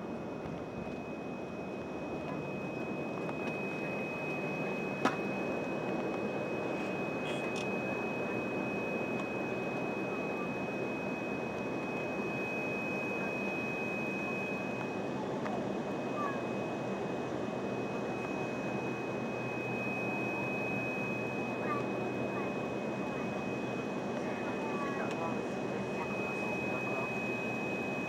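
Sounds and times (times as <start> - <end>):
thin high whine: 0.0 - 28.0.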